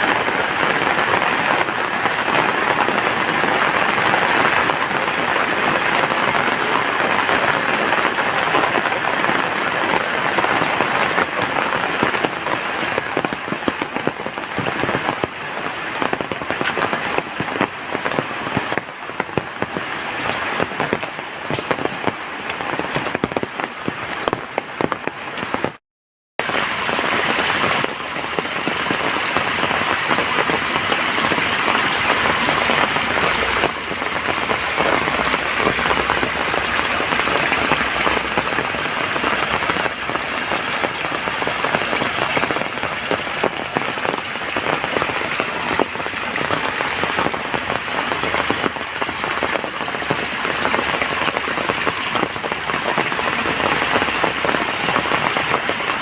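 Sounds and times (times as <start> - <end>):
heavy rain falling: 0.0 - 25.8, 26.4 - 56.0.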